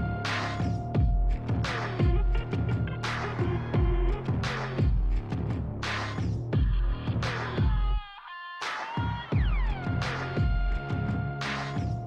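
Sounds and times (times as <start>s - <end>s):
electronic music with heavy bass: 0.0s - 8.1s, 8.7s - 12.0s.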